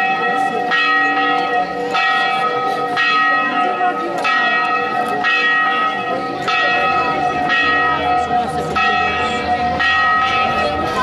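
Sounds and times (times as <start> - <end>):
church bell tolling: 0.0 - 11.0.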